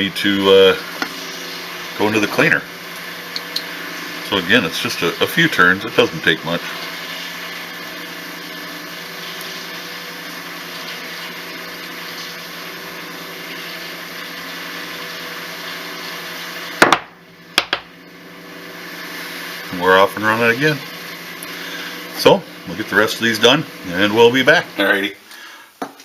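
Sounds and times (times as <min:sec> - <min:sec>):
mechanical hum with low buzz: 0:00.0 - 0:26.0.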